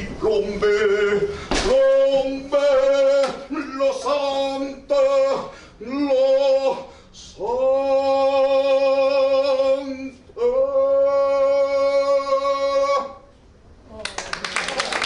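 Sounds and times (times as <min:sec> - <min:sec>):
man singing long held notes: 0:00.0 - 0:13.2.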